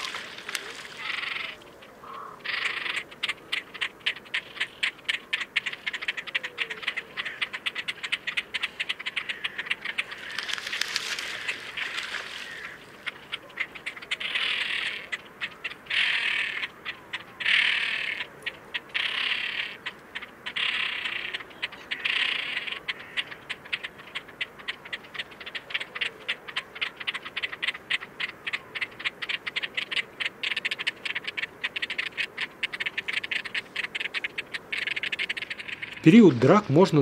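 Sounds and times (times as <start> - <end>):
grebes harsh rasping rattle calls: 0.0 - 37.0.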